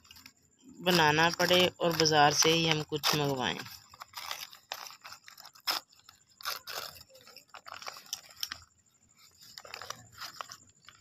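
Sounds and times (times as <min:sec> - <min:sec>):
paper wrapper crinkling: 0:00.0 - 0:11.0.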